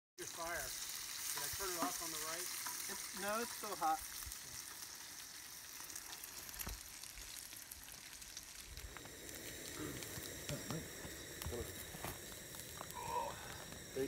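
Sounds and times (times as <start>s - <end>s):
food sizzling on a griddle: 0.2s - 14.0s.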